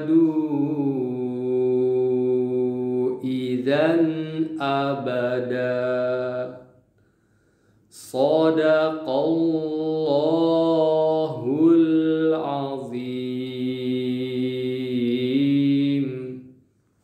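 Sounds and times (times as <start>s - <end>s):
man chanting melodic recitation: 0.0s - 6.7s, 8.0s - 16.5s.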